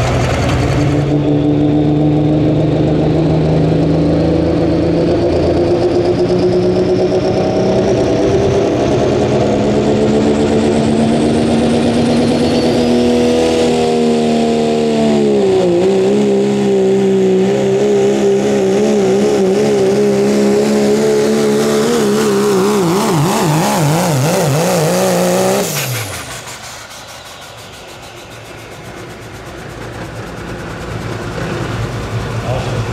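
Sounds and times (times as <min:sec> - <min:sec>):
diesel engine at full throttle: 0:00.0 - 0:32.9
high whine: 0:00.0 - 0:32.9.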